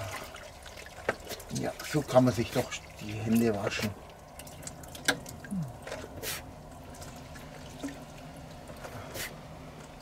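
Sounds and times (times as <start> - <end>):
water trickling from a tap: 0.0 - 8.9
water splashes: 0.0 - 10.0.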